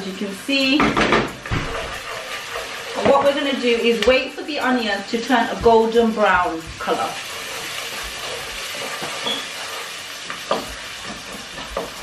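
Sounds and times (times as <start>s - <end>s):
onions sizzling in oil: 0.0s - 12.0s
wooden spoon scraping a pan: 0.1s - 12.0s.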